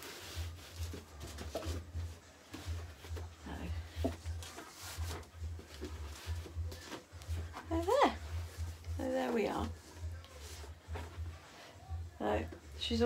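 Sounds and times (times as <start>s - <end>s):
fabric rustling: 0.0s - 12.2s.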